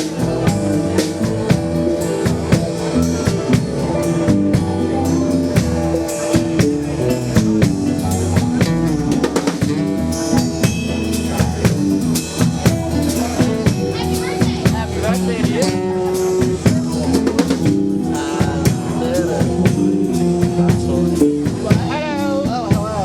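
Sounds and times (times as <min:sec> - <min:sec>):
drum kit beat: 0:00.0 - 0:23.0
guitar: 0:00.0 - 0:23.0
rock band playing: 0:00.0 - 0:23.0.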